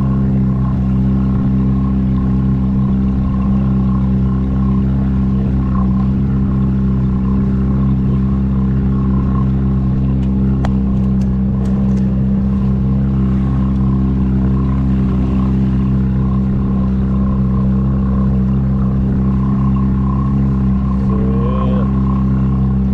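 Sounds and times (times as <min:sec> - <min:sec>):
engine drone: 0:00.0 - 0:22.9.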